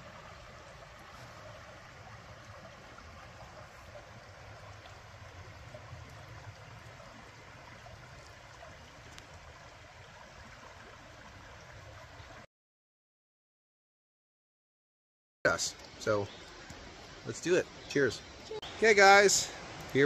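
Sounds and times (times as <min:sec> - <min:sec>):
creek water rushing: 0:00.0 - 0:12.4, 0:15.5 - 0:20.0.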